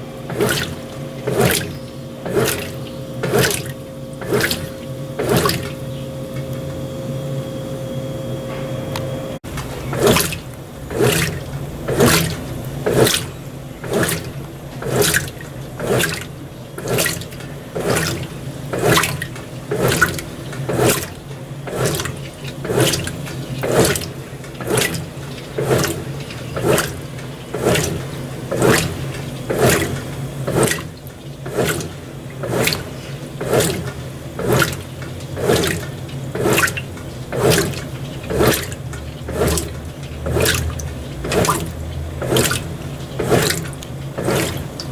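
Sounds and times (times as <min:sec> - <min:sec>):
washing machine motor hum: 0:00.0 - 0:44.9
water sloshing in washing machine: 0:00.0 - 0:44.9.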